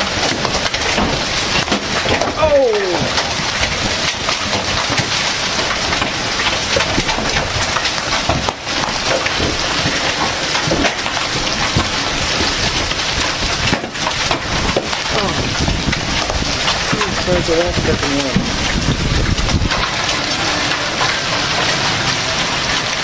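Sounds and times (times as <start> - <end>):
hailstones striking ground and cars: 0.0 - 23.0
heavy rain: 0.0 - 23.0.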